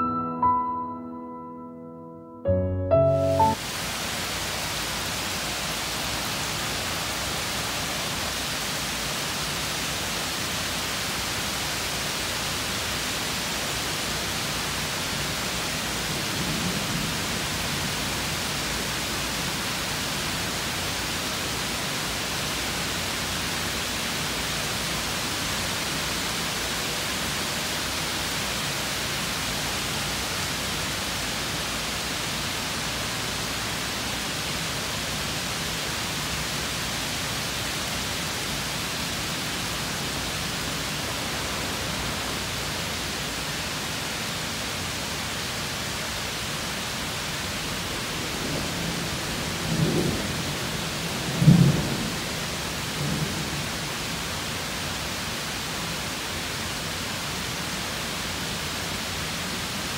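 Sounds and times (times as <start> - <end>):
heavy rain on trees and lawn: 3.0 - 59.9.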